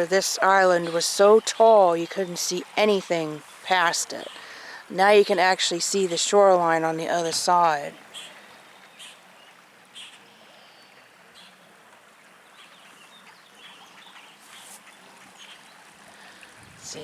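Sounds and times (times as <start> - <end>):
quiet outdoor hiss: 0.0 - 17.0.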